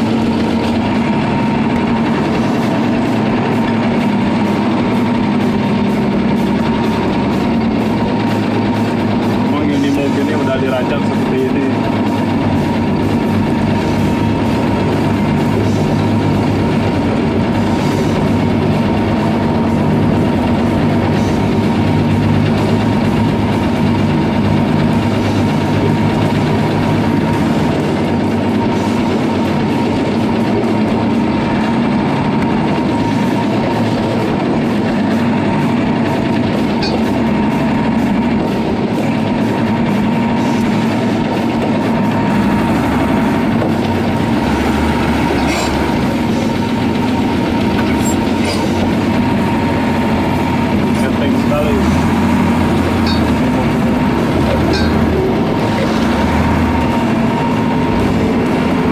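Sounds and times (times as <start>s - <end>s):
diesel truck engine running: 0.0s - 58.9s
thin steady whine: 0.0s - 58.9s.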